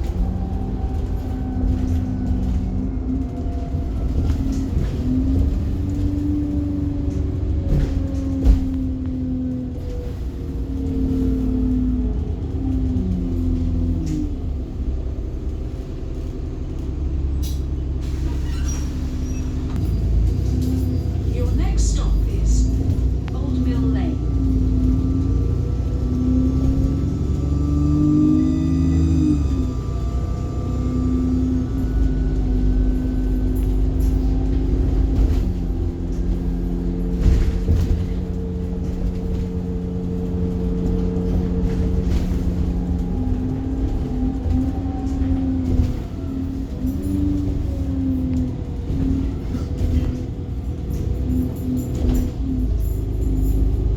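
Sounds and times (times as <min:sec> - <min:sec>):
bus engine rumble: 0:00.0 - 0:53.9.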